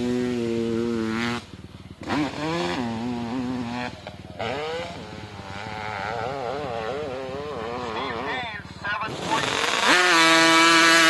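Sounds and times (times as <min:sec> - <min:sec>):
motorcycle engine revving high: 0:00.0 - 0:11.0.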